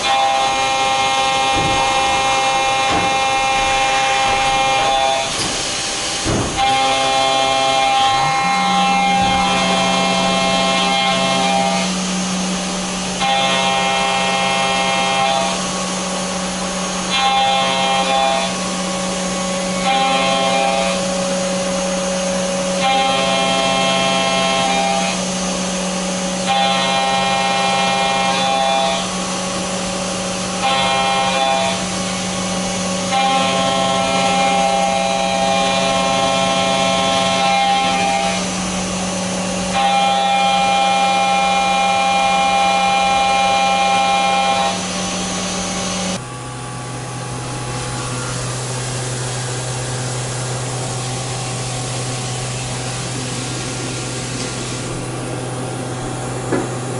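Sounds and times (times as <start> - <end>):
machine tool motor hum: 0.0 - 56.9.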